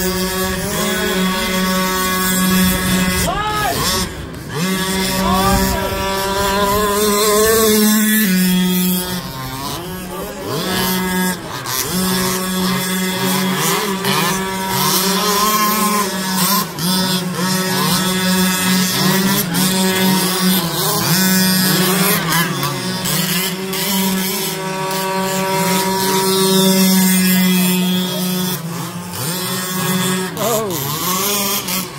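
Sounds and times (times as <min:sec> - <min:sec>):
small petrol engines buzzing: 0:00.0 - 0:31.9.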